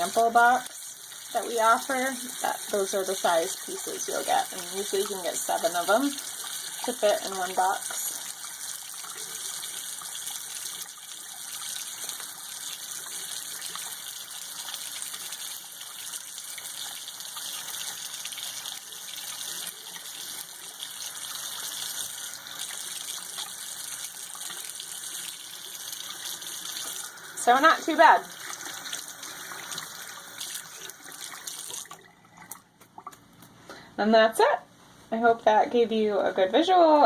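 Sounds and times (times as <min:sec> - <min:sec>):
tap water running into sink: 0:00.0 - 0:33.3.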